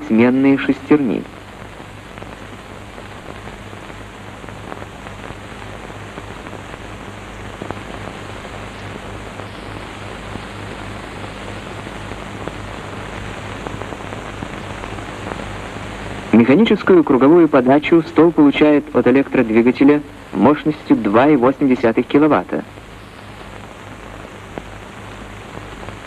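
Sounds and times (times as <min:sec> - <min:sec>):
faint crackles: 0:00.0 - 0:26.0
film soundtrack hiss: 0:00.0 - 0:26.0
low mains hum: 0:00.0 - 0:26.0.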